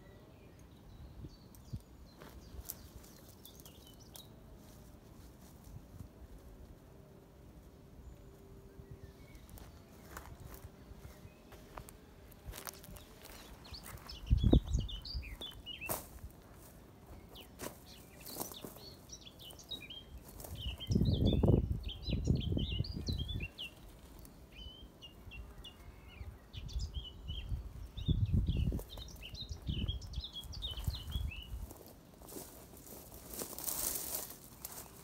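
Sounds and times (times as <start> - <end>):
songbirds chirping and singing: 0.0 - 4.5, 8.0 - 35.0.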